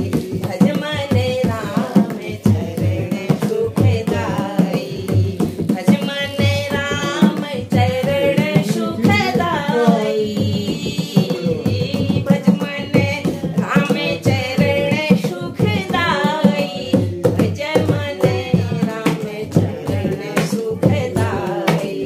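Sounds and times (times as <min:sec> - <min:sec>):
hand clapping: 0:00.0 - 0:22.0
hand drum beating: 0:00.0 - 0:22.0
women singing in chorus: 0:00.0 - 0:22.0.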